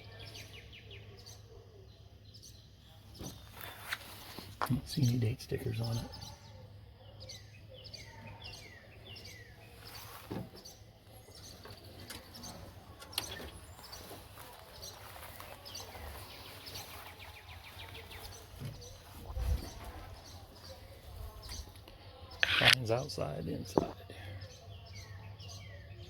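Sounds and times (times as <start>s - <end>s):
birds chirping: 0.0s - 26.0s
outdoor background noise: 0.0s - 26.0s.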